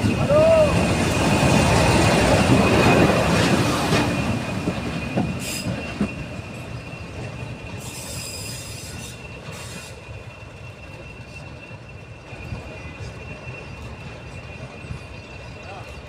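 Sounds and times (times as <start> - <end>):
diesel locomotive engine: 0.0 - 16.0
high-pitched squeal: 0.0 - 16.0.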